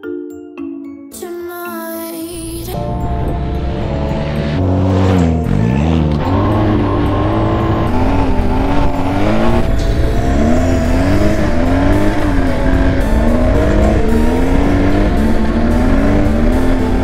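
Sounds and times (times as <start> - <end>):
motorcycle engine running: 2.8 - 17.0.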